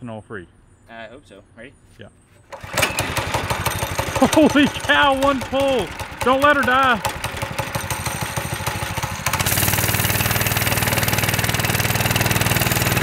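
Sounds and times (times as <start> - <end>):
small engine running: 2.5 - 13.0.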